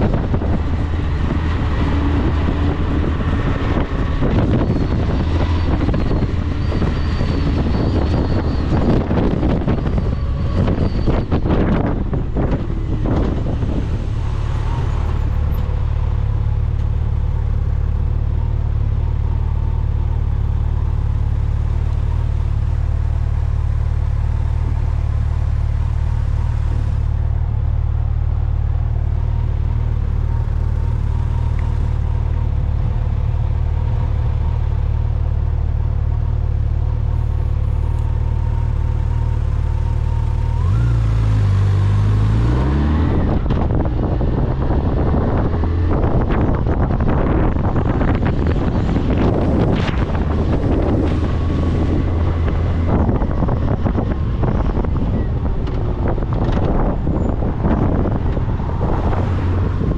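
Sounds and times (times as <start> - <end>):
road noise: 0.0 - 59.9
vehicle engine droning: 0.0 - 59.9.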